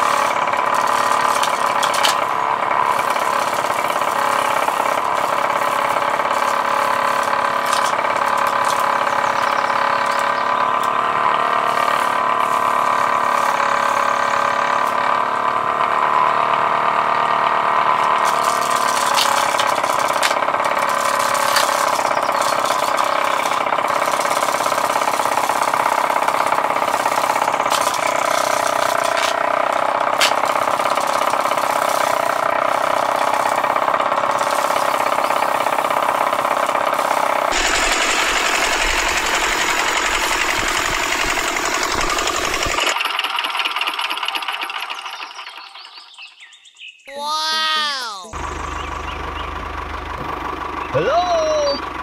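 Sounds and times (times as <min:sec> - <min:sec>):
small motor running: 0:00.0 - 0:46.5.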